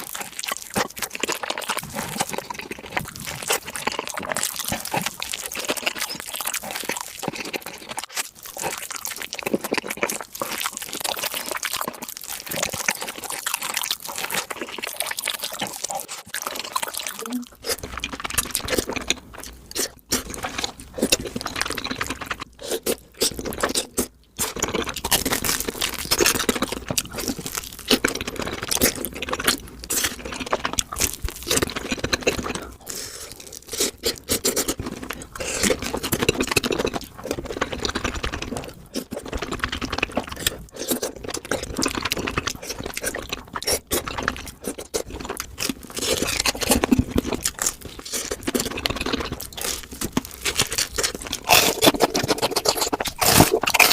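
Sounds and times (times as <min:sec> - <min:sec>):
crunching and chewing crispy food: 0:00.0 - 0:53.9.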